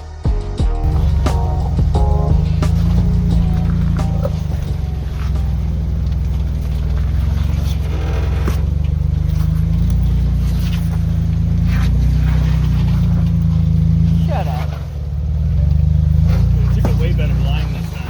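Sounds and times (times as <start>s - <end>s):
engine running under load: 0.8s - 18.0s
knocks from rocks and drivetrain: 2.1s - 18.0s.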